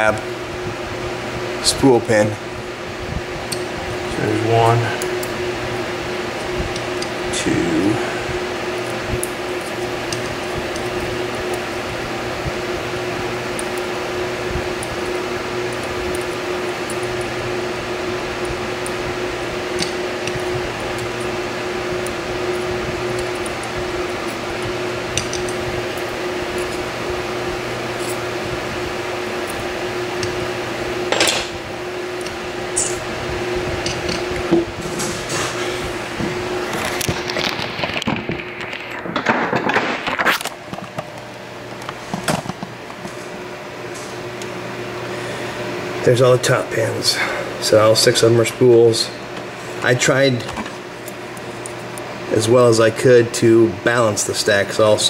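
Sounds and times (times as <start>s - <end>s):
fan hum: 0.0s - 55.0s.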